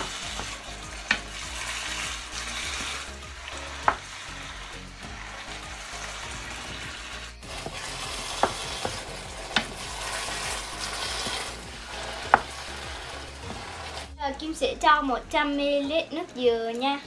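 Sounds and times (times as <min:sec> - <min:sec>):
sauce sizzling in a frying pan: 0:00.0 - 0:14.0
wooden spoon stirring: 0:00.0 - 0:14.2.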